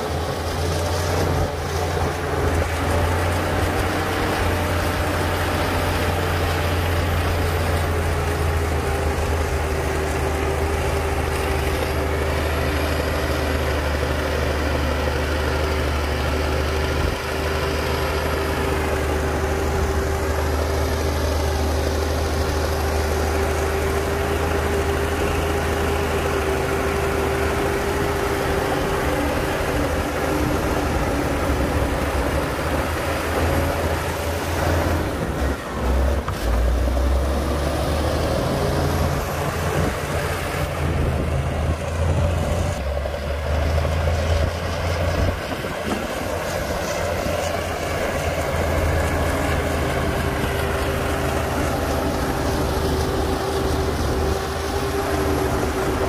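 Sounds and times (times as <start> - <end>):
diesel engine rumbling: 0.0 - 56.0
engine whine: 0.0 - 56.0.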